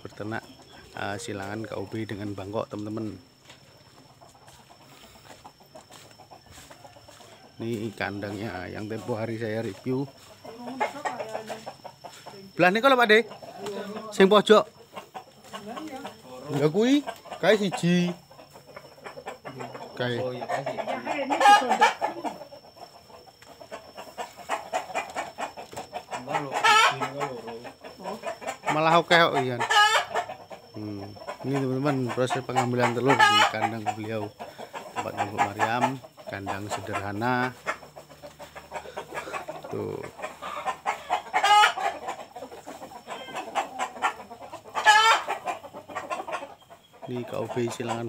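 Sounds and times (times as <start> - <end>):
chicken drawn-out call: 0.0 - 48.0
chickens clucking: 0.0 - 48.0.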